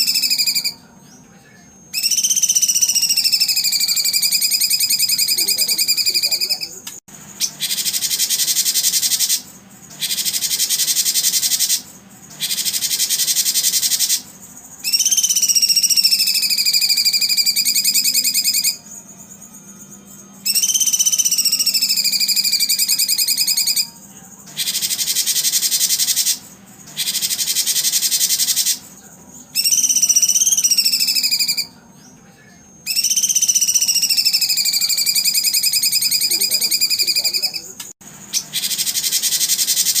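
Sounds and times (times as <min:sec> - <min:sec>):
songbird whistled notes: 0:00.0 - 0:01.2, 0:01.8 - 0:06.8, 0:07.4 - 0:32.2, 0:32.8 - 0:40.0
bird buzzy trills: 0:00.0 - 0:40.0.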